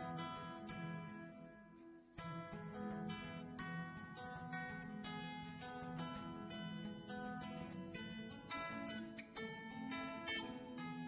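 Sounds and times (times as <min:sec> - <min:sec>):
plucked-string background music: 0:00.0 - 0:11.0.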